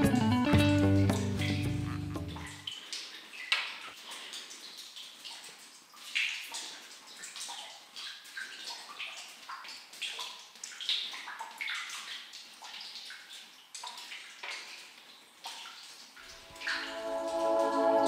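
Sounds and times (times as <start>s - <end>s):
water dripping: 0.0s - 18.0s.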